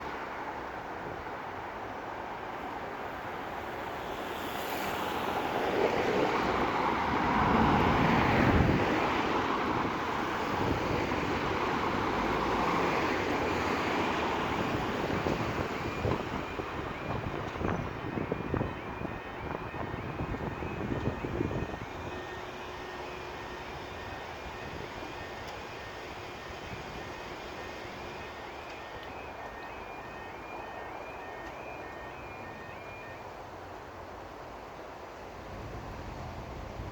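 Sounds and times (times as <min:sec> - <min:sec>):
road traffic passing: 0:00.0 - 0:36.9.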